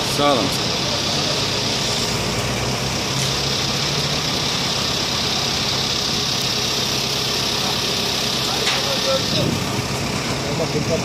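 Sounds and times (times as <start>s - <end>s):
crane engine idling: 0.0s - 11.0s.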